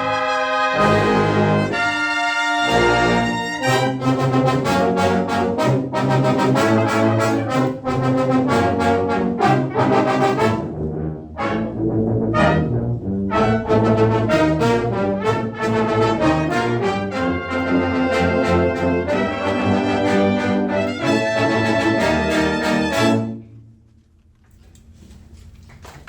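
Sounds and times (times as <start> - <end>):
brass ensemble playing chords: 0.0 - 23.7.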